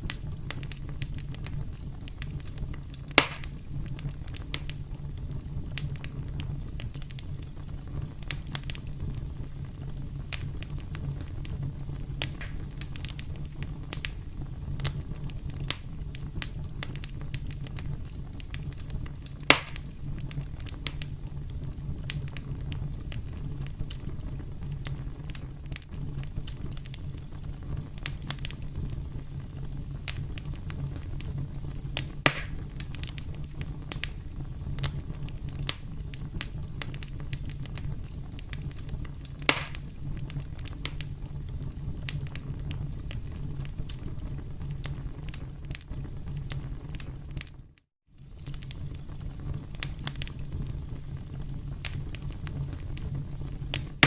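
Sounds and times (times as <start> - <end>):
burning wood crackling: 0.0 - 54.0
campfire flames rumbling: 0.0 - 54.0
fire pops: 0.0 - 54.0.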